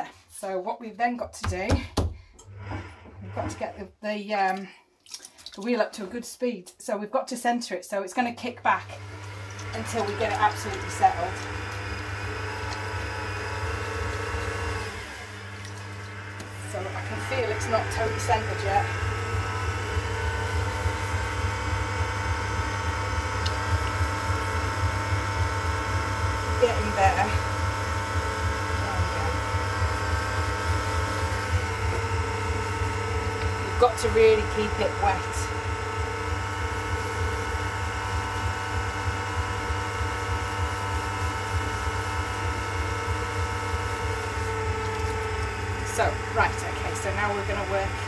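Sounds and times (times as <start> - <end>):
potter's wheel humming: 1.4 - 4.5, 8.2 - 48.0.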